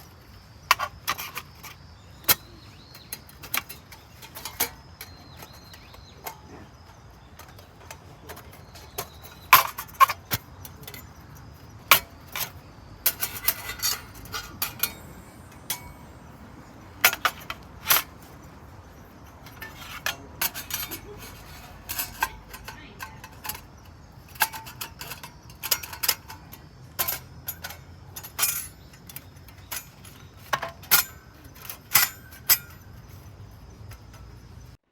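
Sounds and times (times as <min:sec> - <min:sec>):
metal stove parts clinking: 0:00.0 - 0:34.8.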